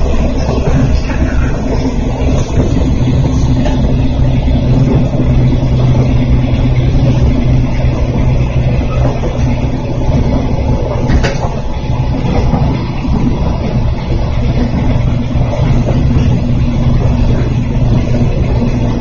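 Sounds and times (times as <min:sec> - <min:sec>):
train motor hum: 0:00.0 - 0:19.0
wheel-on-rail rumble: 0:00.0 - 0:19.0.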